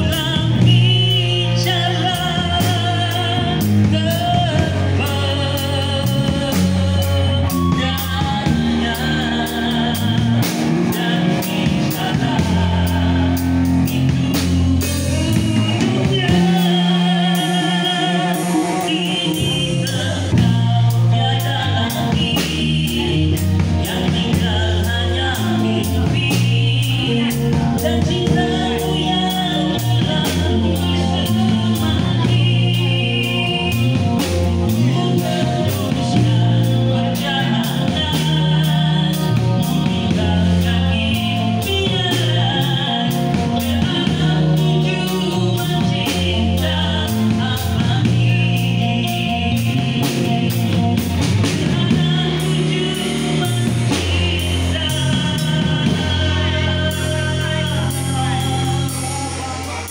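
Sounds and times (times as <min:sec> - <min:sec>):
drum kit beat: 0:00.0 - 0:59.9
electric guitars and bass: 0:00.0 - 0:59.9
man singing into microphone: 0:00.0 - 0:59.9.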